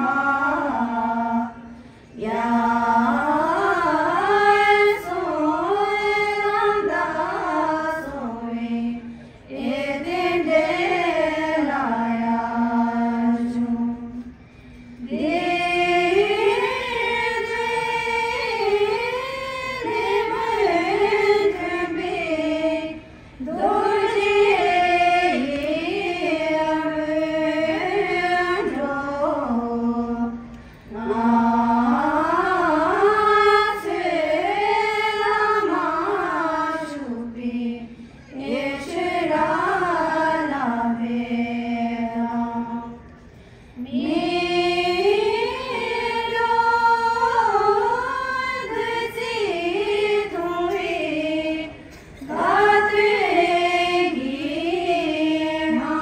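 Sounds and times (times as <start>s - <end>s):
melodic chanting in unison: 0.0s - 43.2s, 43.8s - 56.0s.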